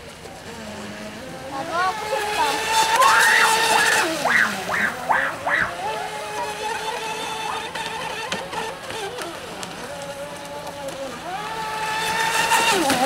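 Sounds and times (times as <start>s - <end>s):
model speedboat motor whine: 0.0s - 13.0s.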